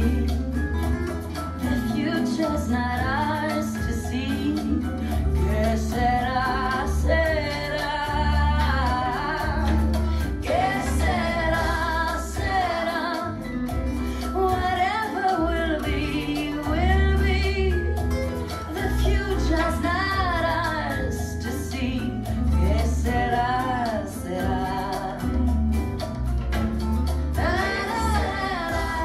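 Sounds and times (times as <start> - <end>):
woman singing with vibrato: 0.0 - 0.7, 1.7 - 25.7, 27.3 - 29.0
band accompaniment with bass: 0.0 - 29.0.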